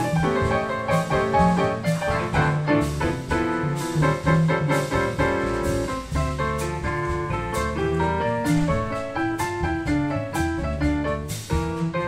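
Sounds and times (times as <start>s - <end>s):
grand piano playing: 0.0s - 12.0s.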